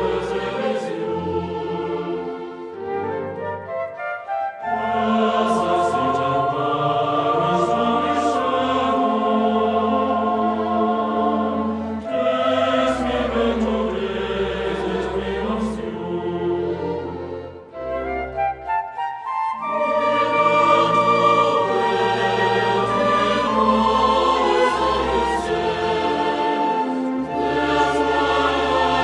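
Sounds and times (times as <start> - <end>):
slow choir-like background music: 0.0 - 29.0.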